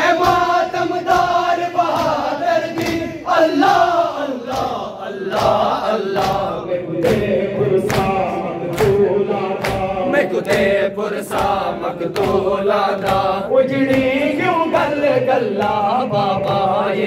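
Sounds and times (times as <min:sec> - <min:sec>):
men chanting in unison: 0:00.0 - 0:17.0
rhythmic chest-beating strikes: 0:00.0 - 0:17.0.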